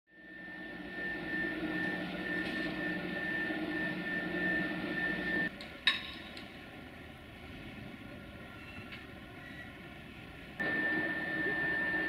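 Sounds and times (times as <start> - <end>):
mechanical drone with high whine: 0.1 - 12.0.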